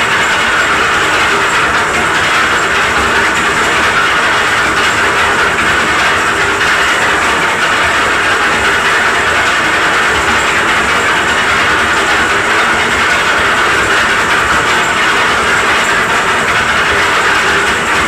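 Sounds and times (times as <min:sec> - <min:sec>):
concrete mixer running: 0:00.0 - 0:18.0.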